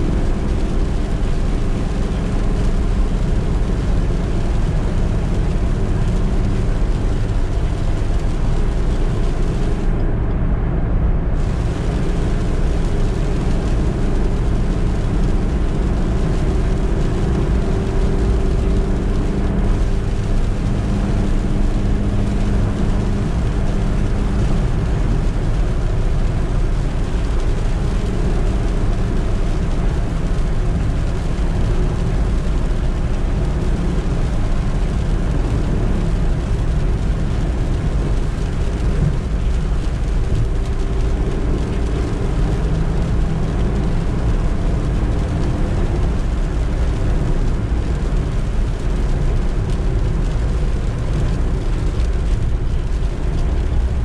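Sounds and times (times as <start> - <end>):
road rumble: 0.0 - 54.0
van engine running: 0.0 - 54.0.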